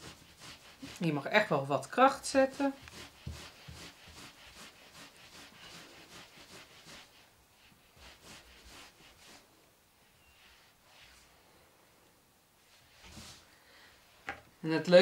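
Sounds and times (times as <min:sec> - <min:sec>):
palms rubbing wool on towel: 0:00.0 - 0:11.4, 0:12.7 - 0:13.5.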